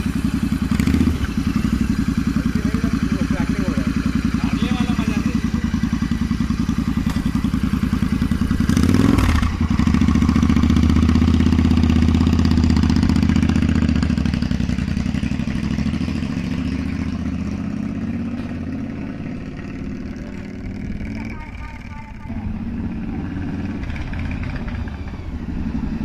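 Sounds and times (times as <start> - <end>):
loud motorcycle engine revving: 0.0 - 26.0.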